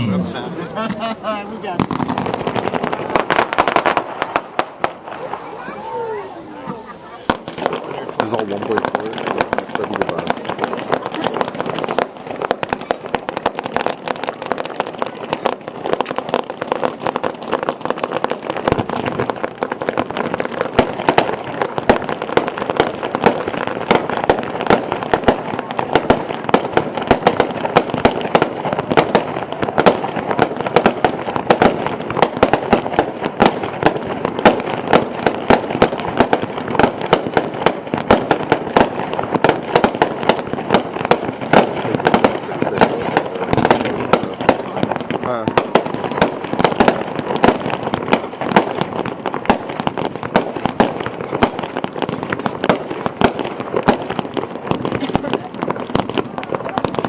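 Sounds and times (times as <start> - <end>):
crackling hiss: 0.0 - 57.0
fireworks bangs and pops: 0.0 - 57.0.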